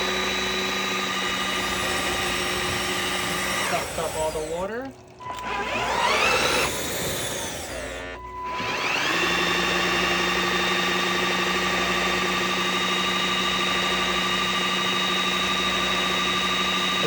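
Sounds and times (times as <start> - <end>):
floor washer motor whining: 0.0 - 17.0.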